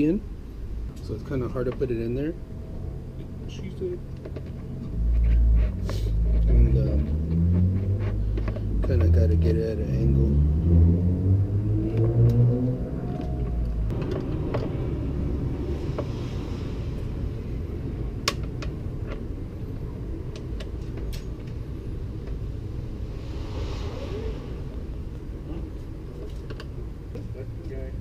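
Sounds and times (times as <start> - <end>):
low rumble: 4.7 - 27.2.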